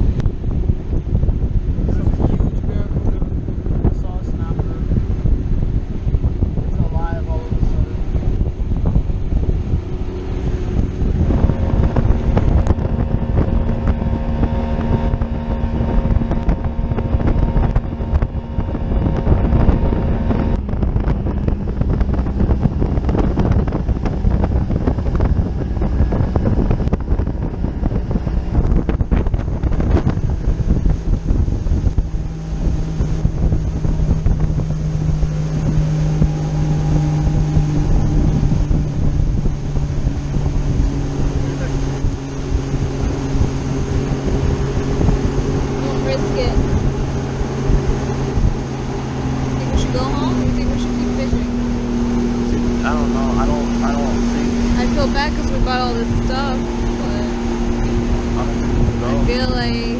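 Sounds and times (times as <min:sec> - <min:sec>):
outboard engine running: 0:00.0 - 0:59.9
water rushing along hull: 0:00.0 - 0:59.9
wind buffeting microphone: 0:00.0 - 0:59.9.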